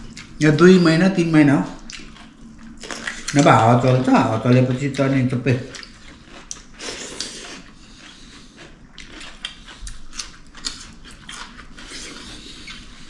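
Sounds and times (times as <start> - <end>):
person chewing food: 0.0 - 0.4, 1.7 - 13.0.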